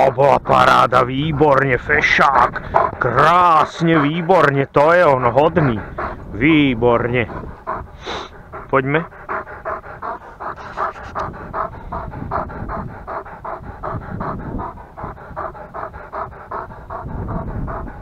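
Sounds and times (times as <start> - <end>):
dog panting quickly: 0.0 - 18.0.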